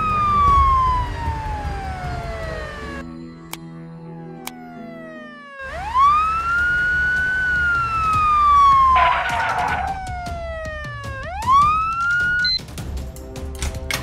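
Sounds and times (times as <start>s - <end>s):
ambulance siren wailing: 0.0s - 3.1s, 4.1s - 12.6s.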